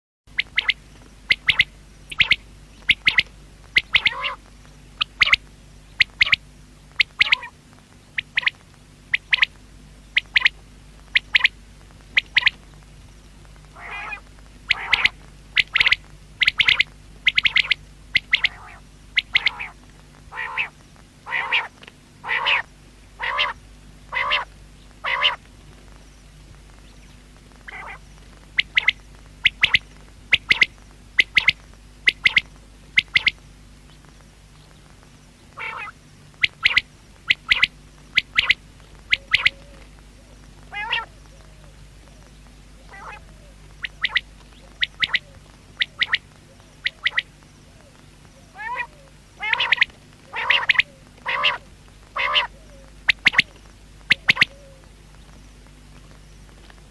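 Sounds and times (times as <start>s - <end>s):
quail calling: 0.3s - 12.6s, 13.7s - 25.5s, 27.6s - 33.4s, 35.5s - 54.9s.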